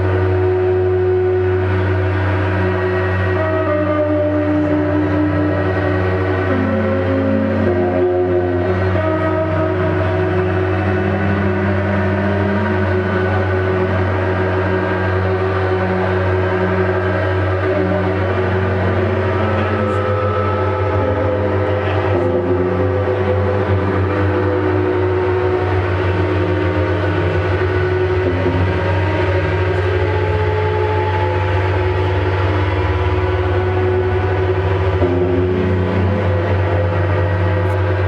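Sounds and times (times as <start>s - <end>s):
drone noise music: 0.0s - 38.0s.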